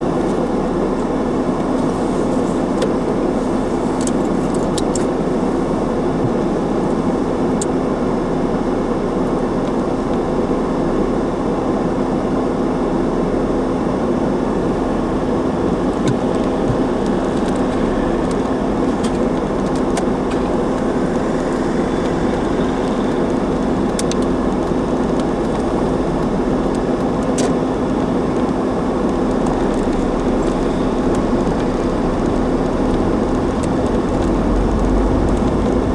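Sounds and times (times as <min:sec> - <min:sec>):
car engine hum: 0:00.0 - 0:35.9
road and tyre noise: 0:00.0 - 0:35.9.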